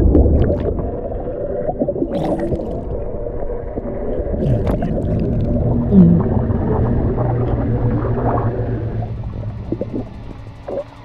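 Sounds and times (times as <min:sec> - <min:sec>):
muffled underwater rumble and gurgling: 0:00.0 - 0:11.0.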